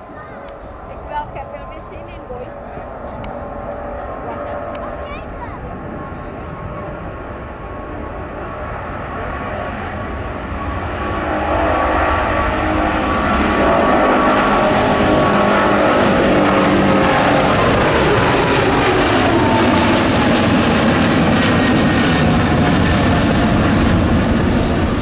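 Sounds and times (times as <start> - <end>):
jet airliner passing: 0.0 - 25.0.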